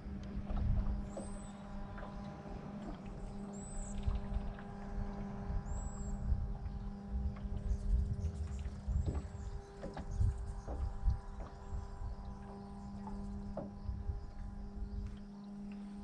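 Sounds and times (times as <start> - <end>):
boat motor humming: 0.0 - 16.0
low rumbling: 0.0 - 16.0.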